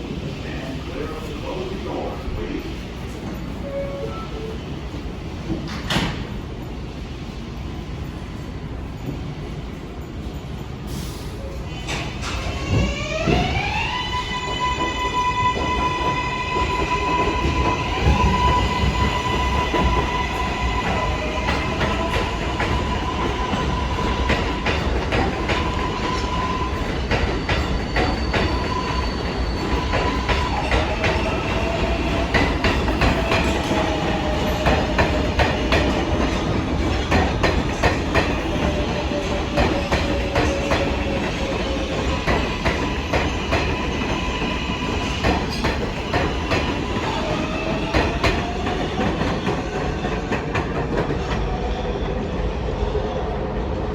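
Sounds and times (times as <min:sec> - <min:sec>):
subway train motor whine: 0:00.0 - 0:49.5.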